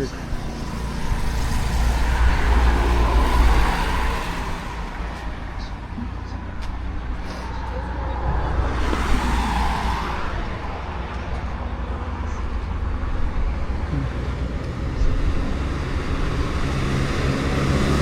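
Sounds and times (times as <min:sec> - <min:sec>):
rush of traffic: 0:00.0 - 0:18.0
vehicle engine and road rumble: 0:00.0 - 0:18.0.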